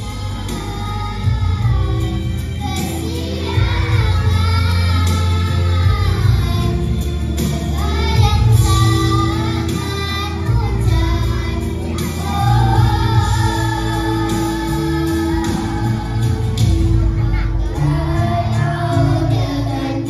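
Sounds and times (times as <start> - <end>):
children singing into microphones: 0.0 - 20.0
instrumental accompaniment: 0.0 - 20.0
low bass line: 3.5 - 20.0.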